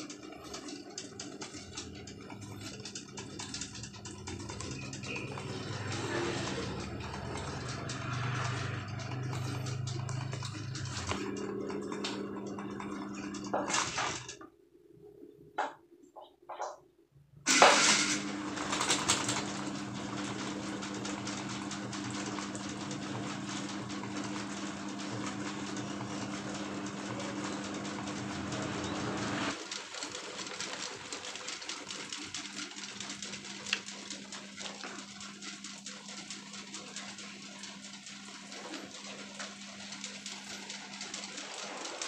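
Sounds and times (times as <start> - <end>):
fan blades whirring: 0.0 - 14.6, 17.5 - 42.0
fan motor hum: 0.0 - 14.6, 17.4 - 42.0.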